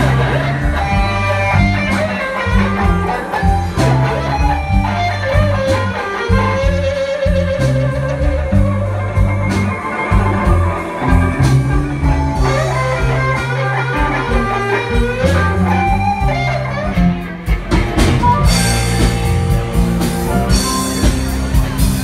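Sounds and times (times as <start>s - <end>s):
guitar-led song with drums: 0.0s - 22.0s.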